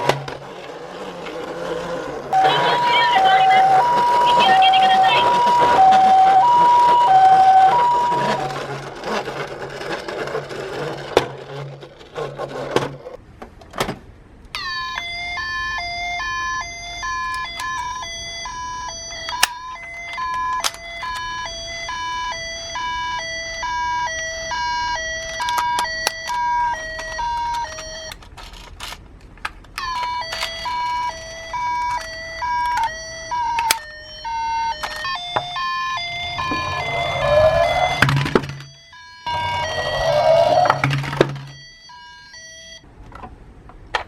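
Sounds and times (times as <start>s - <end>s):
two-tone toy siren: 0.0s - 12.2s, 14.6s - 28.2s, 29.8s - 42.9s.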